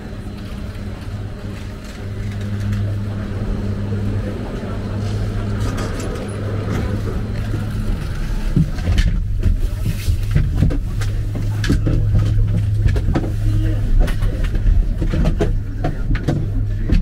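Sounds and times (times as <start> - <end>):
low hum of station machinery: 0.0 - 17.0.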